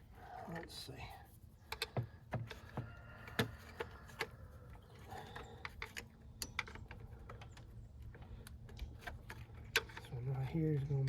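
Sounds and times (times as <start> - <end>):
hand tools clicking and clanking: 1.6 - 11.0.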